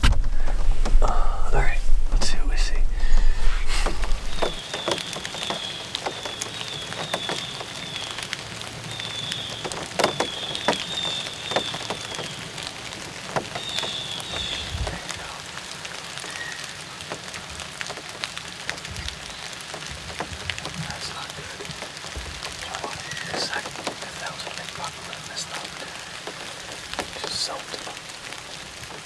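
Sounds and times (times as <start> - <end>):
rain drops ticking: 0.0 - 29.0.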